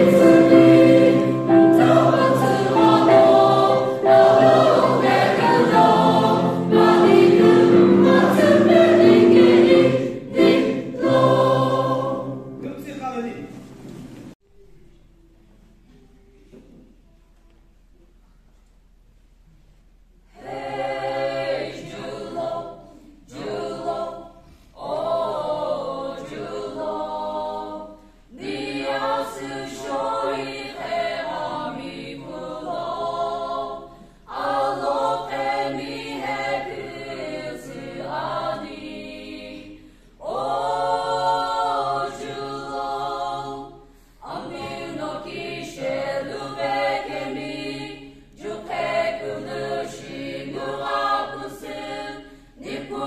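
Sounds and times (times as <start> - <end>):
choir singing unaccompanied: 0.0 - 12.8, 20.3 - 53.0.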